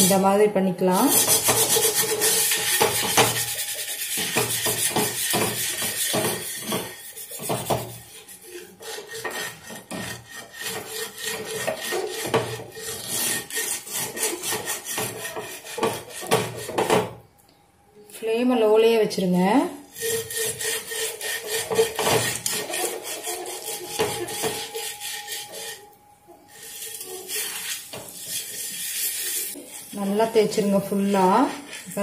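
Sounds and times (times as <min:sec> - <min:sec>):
gritty scrubbing on iron pan: 0:00.0 - 0:00.2, 0:00.9 - 0:17.2, 0:19.9 - 0:32.0.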